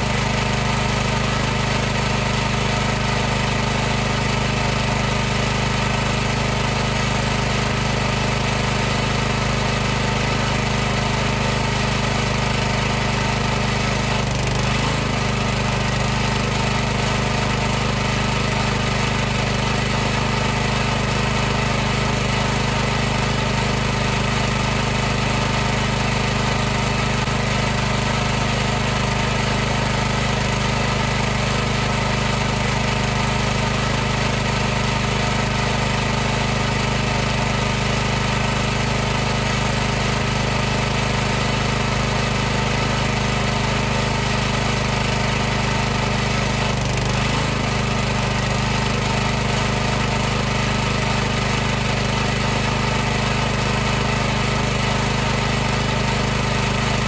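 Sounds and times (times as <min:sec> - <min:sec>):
pressure washer droning hum: 0:00.0 - 0:57.0.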